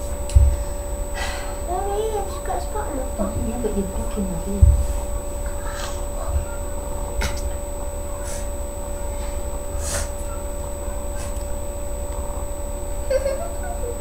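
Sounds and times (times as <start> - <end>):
electrical hum: 0.0 - 14.0
thin high whine: 0.0 - 14.0.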